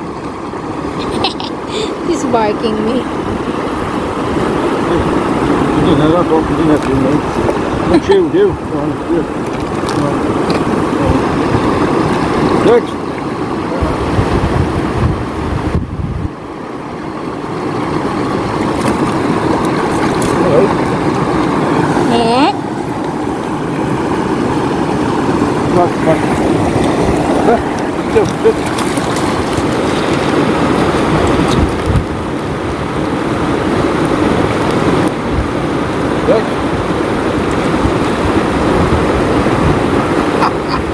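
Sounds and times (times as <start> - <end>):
river running over stones: 0.0 - 40.9
wind buffeting microphone: 2.0 - 40.9.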